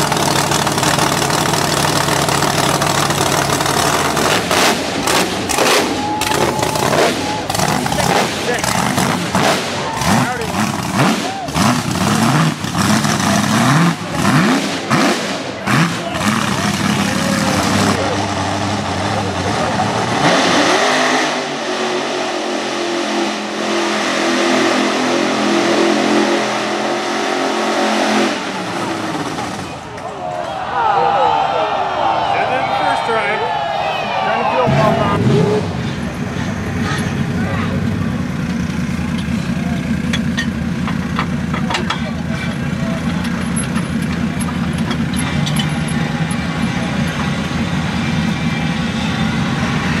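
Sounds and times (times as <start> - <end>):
truck engine revving: 0.0 - 30.0, 34.6 - 50.0.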